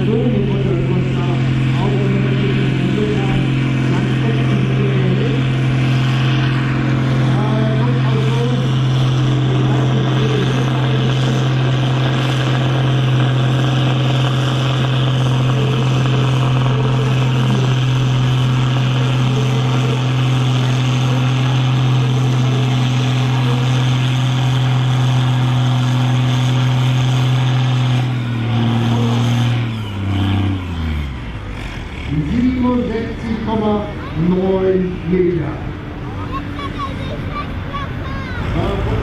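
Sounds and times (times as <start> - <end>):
tractor diesel engine revving: 0.0 - 39.0.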